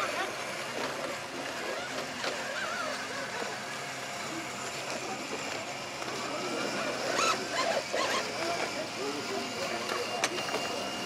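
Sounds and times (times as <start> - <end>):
electric motor and gears whirring: 0.0 - 11.0.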